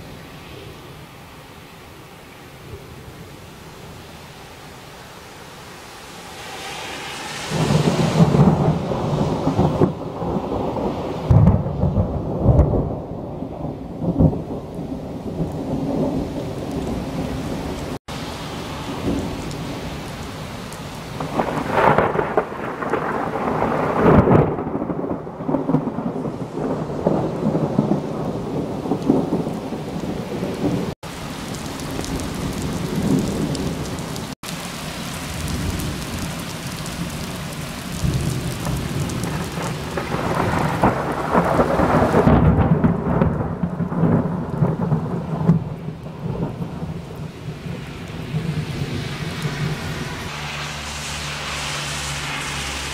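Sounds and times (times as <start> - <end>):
steady rain: 0.0 - 52.9
thunder rumbling: 5.4 - 52.9.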